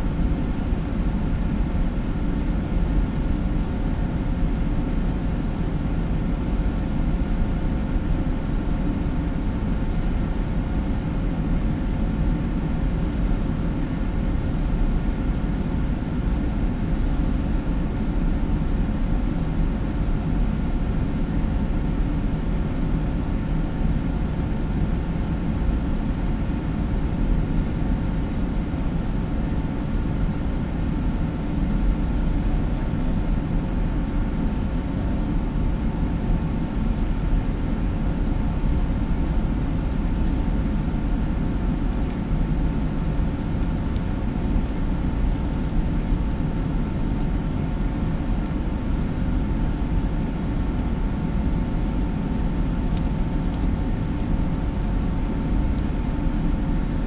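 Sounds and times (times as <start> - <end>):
low rumble and hum of hall: 0.0 - 57.0.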